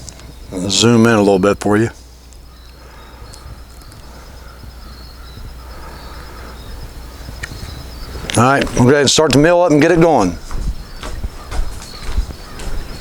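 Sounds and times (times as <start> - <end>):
crickets trilling: 0.0 - 13.0
faint low hum: 0.0 - 13.0.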